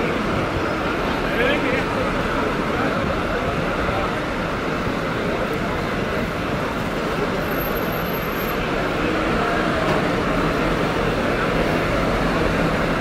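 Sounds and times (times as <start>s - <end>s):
bus driving past: 0.0s - 13.0s
busy street hubbub: 0.0s - 13.0s.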